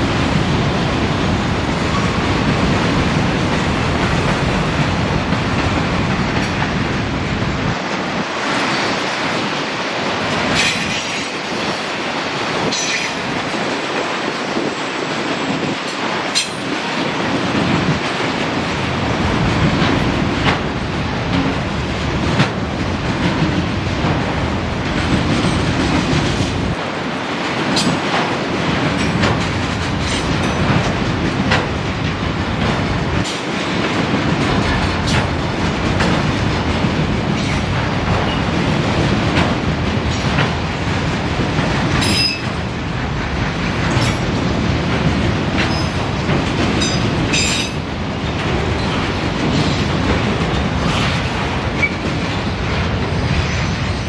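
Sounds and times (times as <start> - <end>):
train wheels clicking over rail joints: 10.2 - 54.0.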